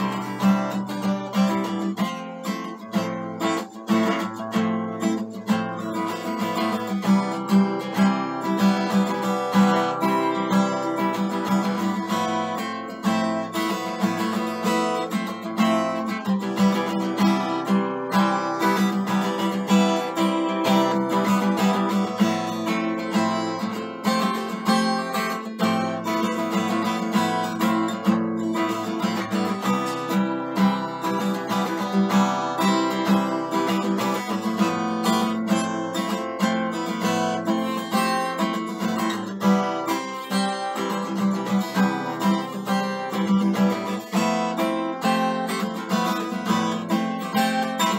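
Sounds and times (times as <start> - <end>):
acoustic guitar strumming chords: 0.0 - 47.9.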